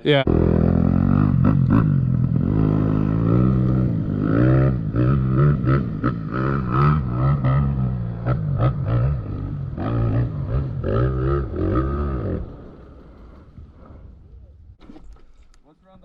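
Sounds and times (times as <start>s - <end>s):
dirt bike engine revving: 0.3s - 14.0s.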